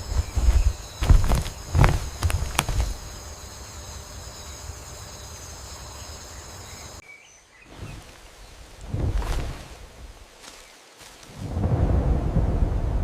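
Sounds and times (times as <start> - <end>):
insects chirring: 0.0 - 12.6.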